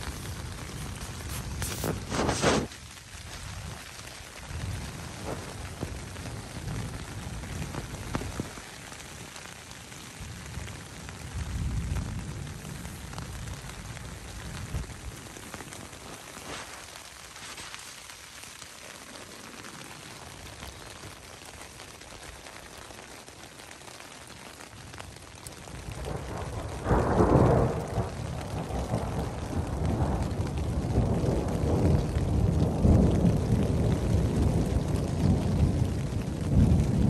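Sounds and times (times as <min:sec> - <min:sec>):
rain pattering: 0:00.0 - 0:37.0.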